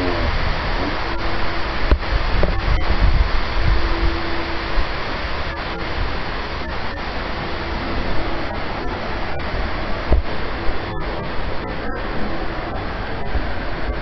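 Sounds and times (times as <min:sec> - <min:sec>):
airliner cabin noise: 0:00.0 - 0:14.0.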